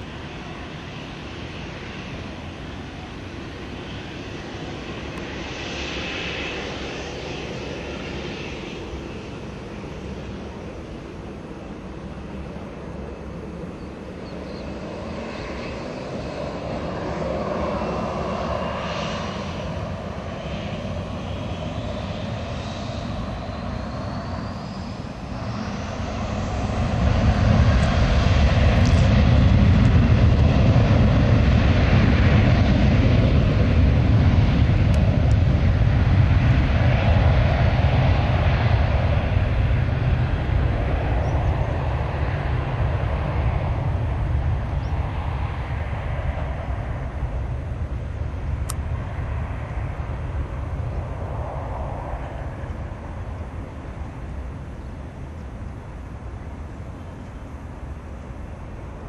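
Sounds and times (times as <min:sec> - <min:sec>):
deep jet engine rumble: 0:00.0 - 0:59.0
jet engines whining: 0:00.0 - 0:59.0.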